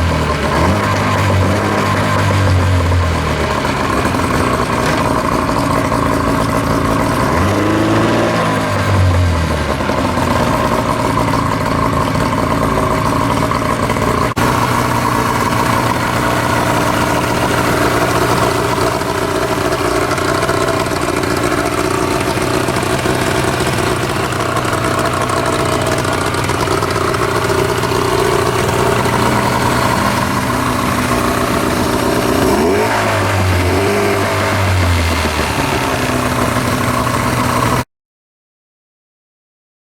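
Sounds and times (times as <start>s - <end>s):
outboard motor idling: 0.0s - 37.8s.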